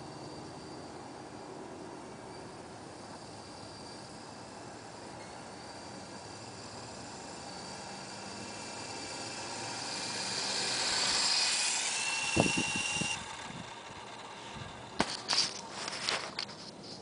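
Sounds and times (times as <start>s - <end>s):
rc helicopter rotors whirring: 0.0s - 17.0s.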